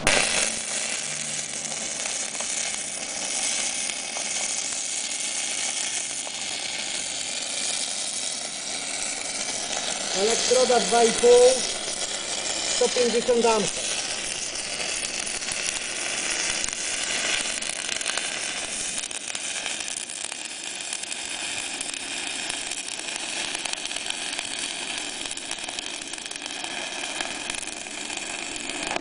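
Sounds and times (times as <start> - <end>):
welding arc crackling hiss: 0.0 - 29.0.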